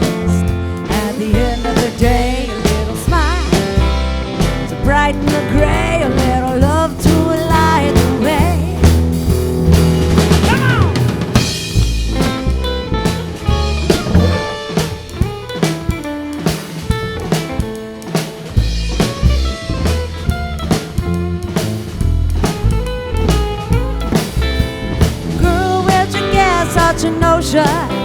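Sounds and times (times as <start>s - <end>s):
drum kit beat: 0.0s - 28.0s
guitar: 0.0s - 28.0s.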